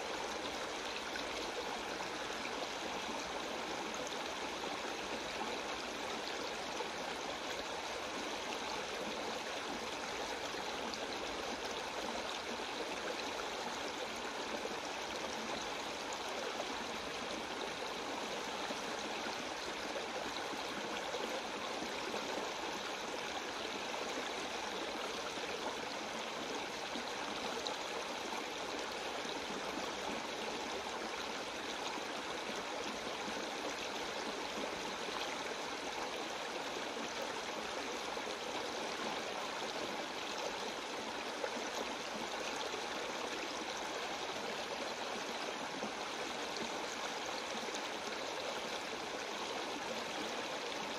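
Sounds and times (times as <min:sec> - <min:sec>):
creek water rushing over rocks: 0:00.0 - 0:50.9.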